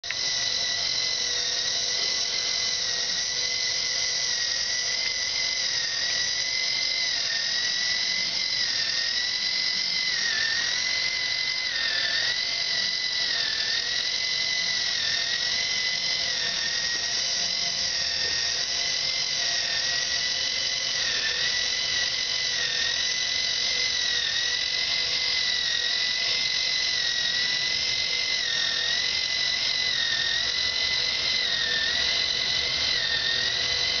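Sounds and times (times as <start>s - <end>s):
toy motor whining: 0.0s - 34.0s.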